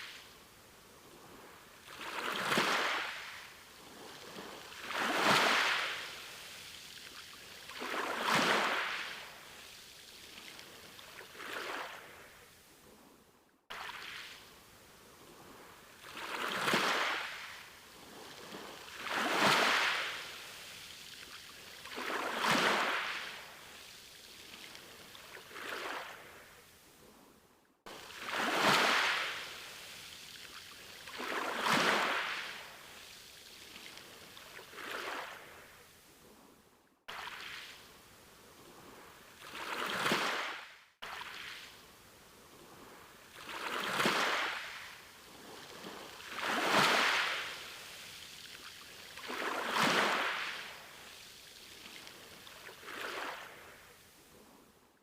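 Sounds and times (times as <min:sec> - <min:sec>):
sea waves washing in: 0:00.0 - 0:54.8.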